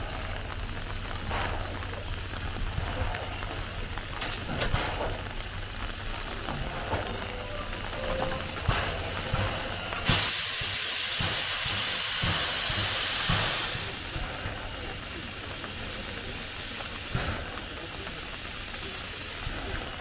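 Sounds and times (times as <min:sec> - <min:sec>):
loud steam hiss: 0:00.0 - 0:20.0.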